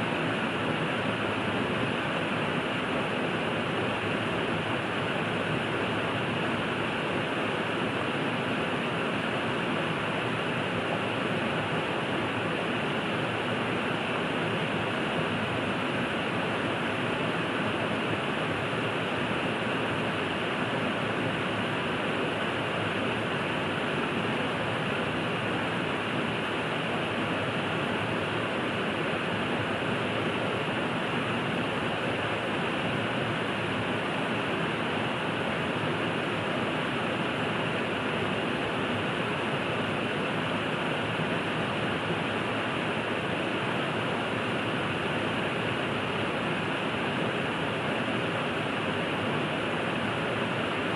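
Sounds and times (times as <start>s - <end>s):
river flowing water: 0.0s - 50.9s.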